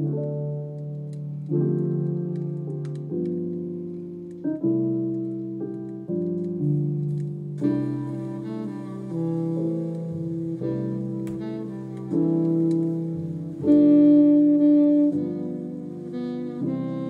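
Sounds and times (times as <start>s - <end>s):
keyboard chords background music: 0.0s - 17.0s.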